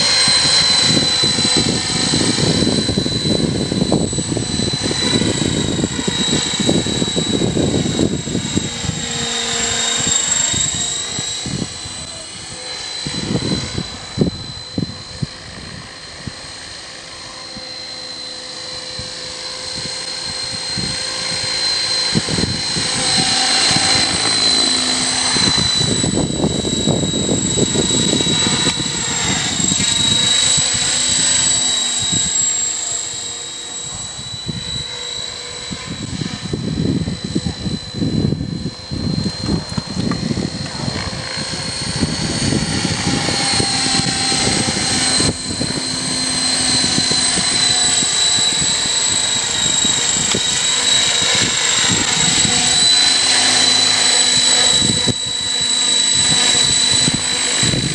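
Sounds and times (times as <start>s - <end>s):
rc helicopter drivetrain whine: 0.0s - 57.9s
rotor blades rushing: 0.0s - 57.9s.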